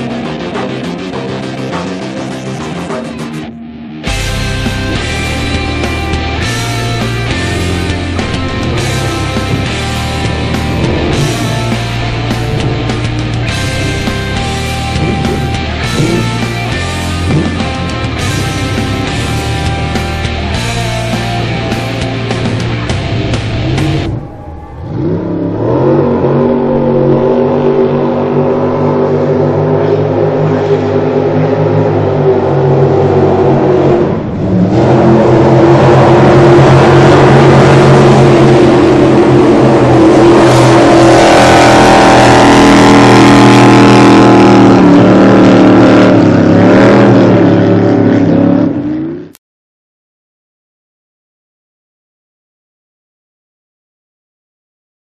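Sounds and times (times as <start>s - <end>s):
jet boat engines running hard: 4.2s - 49.4s.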